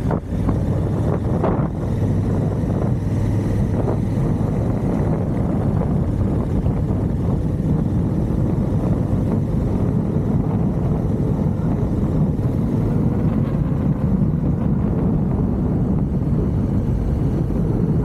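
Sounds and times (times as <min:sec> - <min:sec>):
motorcycle engine rumble: 0:00.0 - 0:18.0
wind on microphone: 0:00.0 - 0:18.0.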